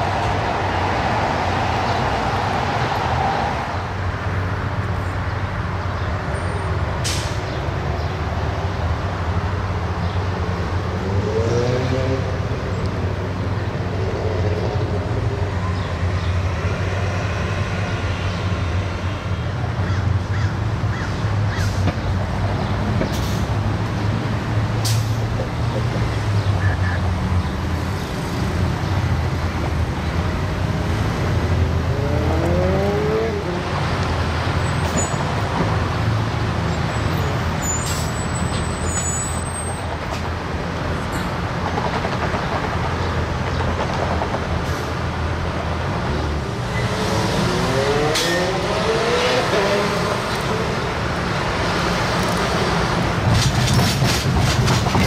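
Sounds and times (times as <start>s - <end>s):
passing vehicle rumble: 0.0s - 55.0s
traffic drone: 0.0s - 55.0s.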